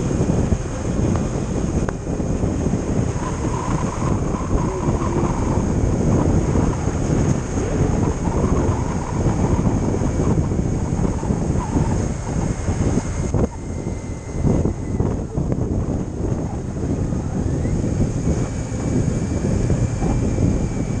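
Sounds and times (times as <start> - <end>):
motorcycle engine and road noise: 0.0 - 21.0
wind buffeting microphone: 0.0 - 21.0.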